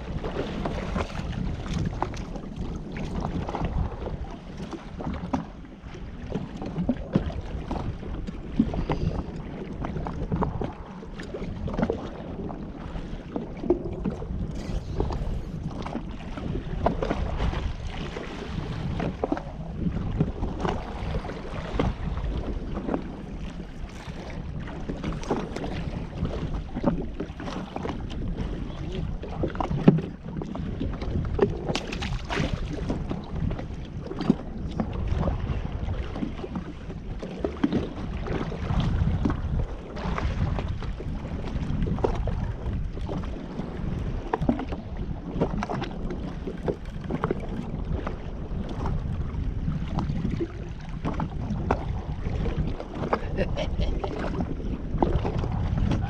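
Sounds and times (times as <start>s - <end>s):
hull slapping on water: 0.0s - 56.0s
jet ski engine rumble: 0.0s - 56.0s
wind buffeting microphone: 0.0s - 56.0s.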